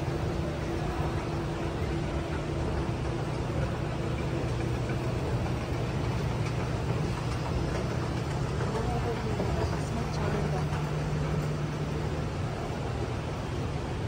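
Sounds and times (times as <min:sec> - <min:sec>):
indoor hum and hiss: 0:00.0 - 0:14.0
machinery and ventilation rumble: 0:00.0 - 0:14.0.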